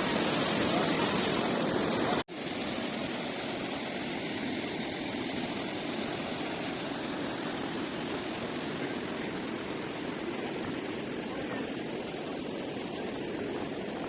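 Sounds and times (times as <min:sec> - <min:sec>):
water rushing down cascades: 0:00.0 - 0:14.0.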